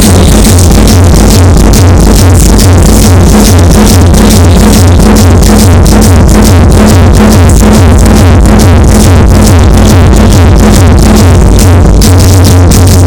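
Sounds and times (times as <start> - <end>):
loud techno music with heavy bass: 0.0 - 13.0.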